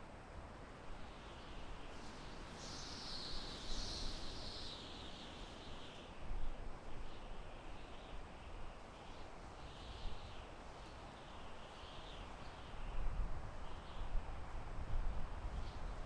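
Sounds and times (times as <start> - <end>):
wind blowing through forest: 0.0 - 16.0.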